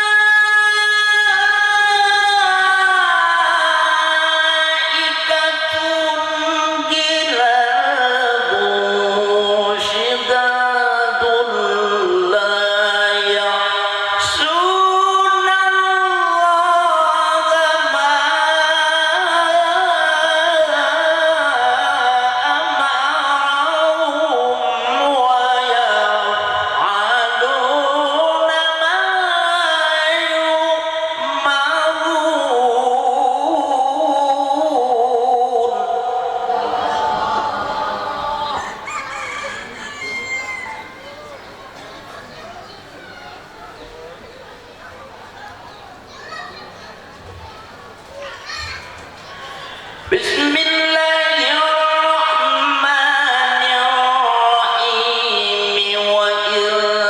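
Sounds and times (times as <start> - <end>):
man reciting melodically: 0.0 - 41.4, 50.0 - 57.0.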